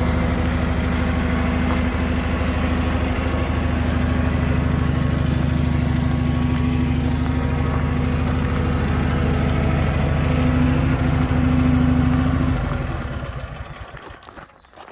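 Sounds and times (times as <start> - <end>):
skid steer engine running: 0.0 - 14.9.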